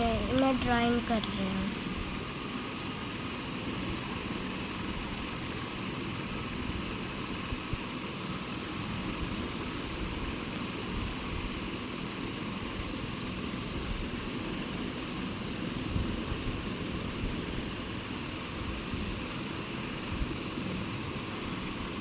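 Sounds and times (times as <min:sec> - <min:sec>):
constant hiss: 0:00.0 - 0:22.0.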